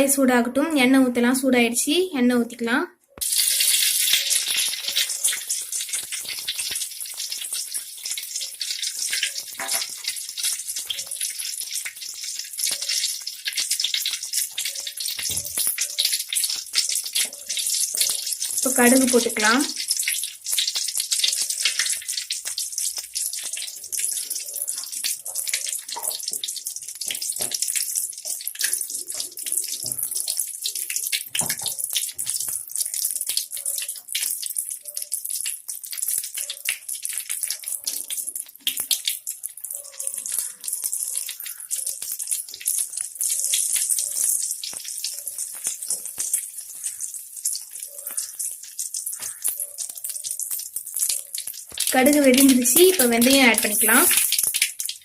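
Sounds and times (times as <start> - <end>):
seeds sizzling and popping in oil: 3.2 - 55.0.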